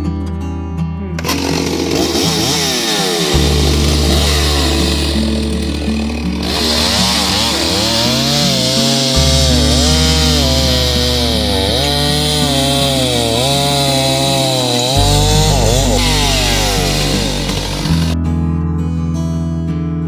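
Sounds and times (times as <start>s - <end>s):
acoustic guitar music: 0.0s - 20.0s
chainsaw cutting: 1.2s - 18.2s.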